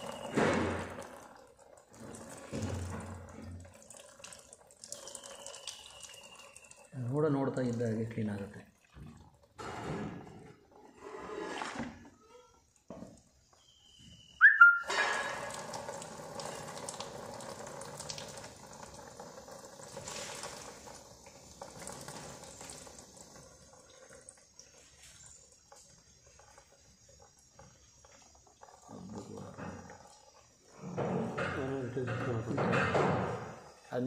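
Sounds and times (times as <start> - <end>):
liquid splashing into plastic tub: 0.0 - 10.7, 14.4 - 31.6.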